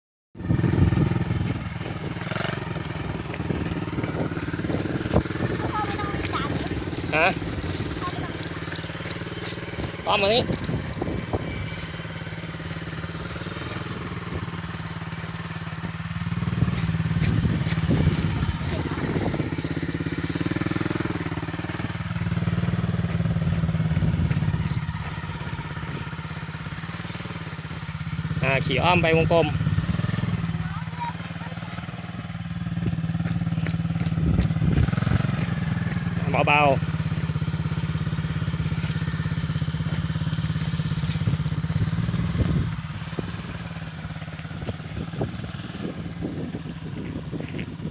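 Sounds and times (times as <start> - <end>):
motocross bike engine running: 0.4 - 47.9.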